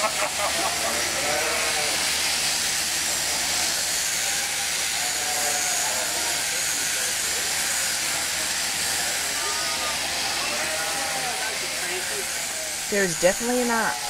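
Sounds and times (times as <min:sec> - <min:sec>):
shearing handpiece whirring: 0:00.0 - 0:14.0.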